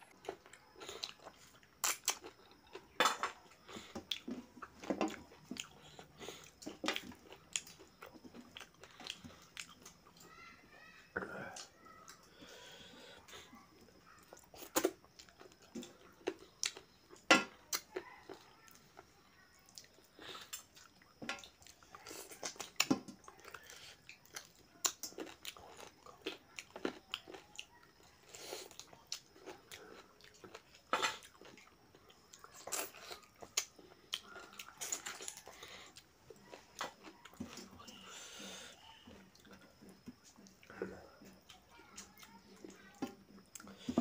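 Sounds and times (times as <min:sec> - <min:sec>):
person chewing food: 0:00.0 - 0:10.5, 0:11.5 - 0:44.0.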